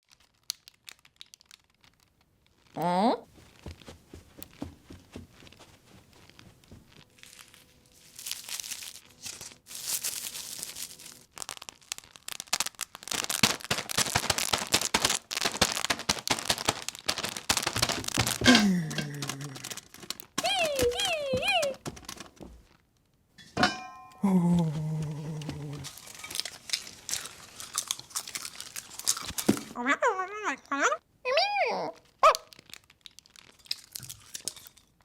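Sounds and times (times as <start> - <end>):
foley crackling and rustling: 0.0 - 23.8, 24.7 - 29.8, 32.0 - 35.0.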